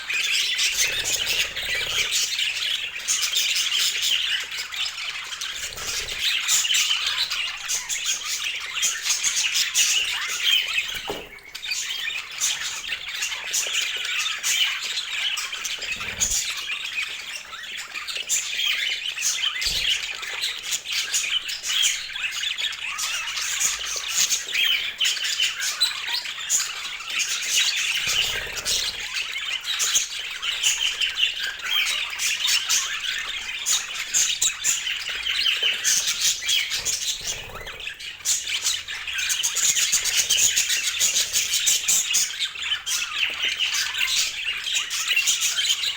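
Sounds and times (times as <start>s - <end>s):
budgerigars chattering and squawking: 0.0s - 45.9s.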